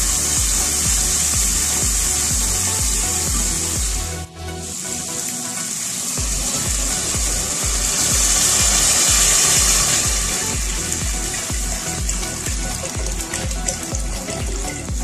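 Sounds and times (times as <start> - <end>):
background music with a beat: 0.0 - 15.0
water pouring into a pot: 0.0 - 15.0.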